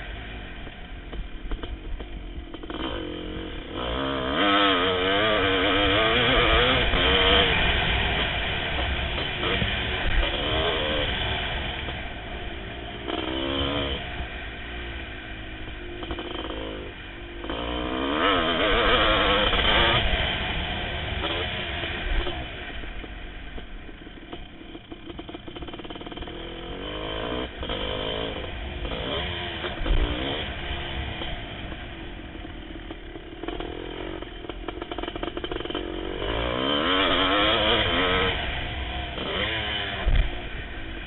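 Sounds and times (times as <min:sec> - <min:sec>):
two-stroke motorcycle engine revving: 0:00.0 - 0:41.0.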